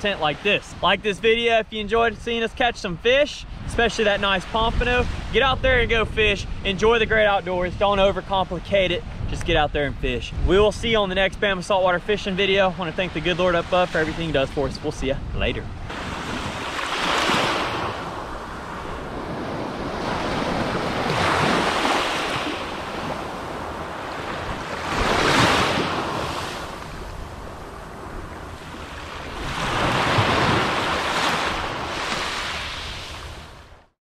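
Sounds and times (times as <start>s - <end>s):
waves breaking on a sandy beach: 0.0s - 33.9s
wind rumbling on the microphone: 3.4s - 33.7s.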